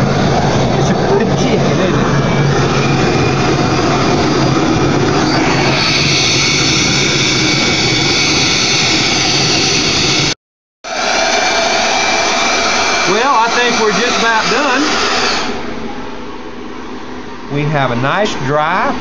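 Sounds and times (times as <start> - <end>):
hair dryer blowing: 0.0 - 15.9.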